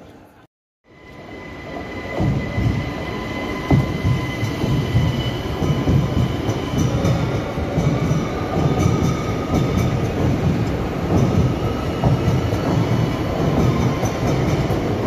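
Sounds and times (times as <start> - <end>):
train wheel and rail rumble: 0.2 - 15.0.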